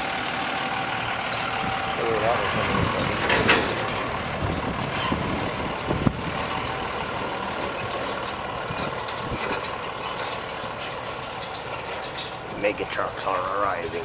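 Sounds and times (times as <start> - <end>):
truck engines idling: 0.0 - 14.0.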